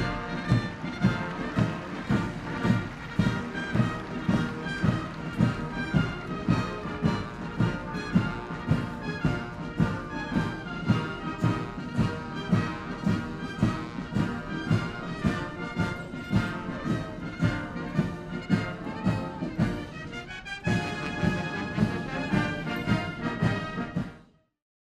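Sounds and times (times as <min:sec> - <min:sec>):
military brass band march: 0:00.0 - 0:24.5.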